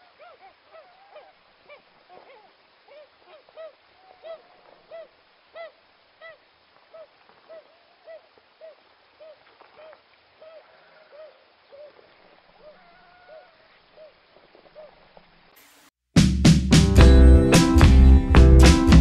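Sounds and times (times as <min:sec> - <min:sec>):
bird calling: 0:00.0 - 0:15.8.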